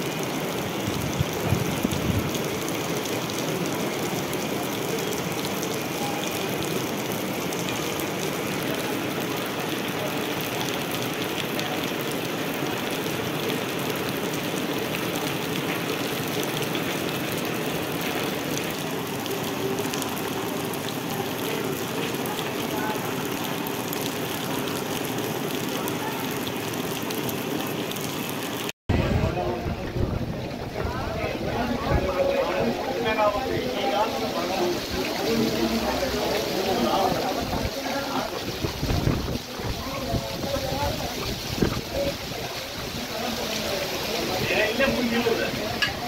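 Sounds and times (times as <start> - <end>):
heavy rain on wet ground: 0.0 - 46.0.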